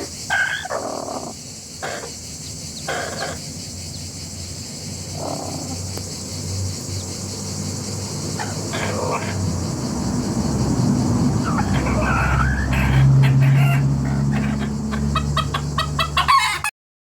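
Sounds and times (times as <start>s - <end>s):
chickens calling: 0.0s - 16.7s.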